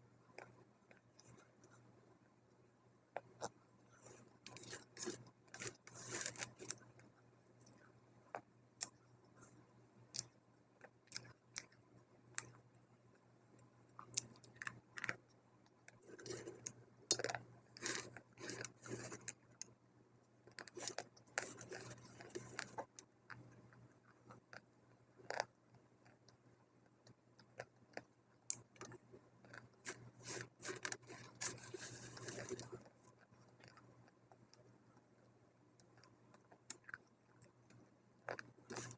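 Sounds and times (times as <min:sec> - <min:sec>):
clay being bitten and chewed: 0:03.2 - 0:09.0, 0:10.1 - 0:12.6, 0:14.0 - 0:19.7, 0:20.4 - 0:35.1, 0:35.8 - 0:38.9.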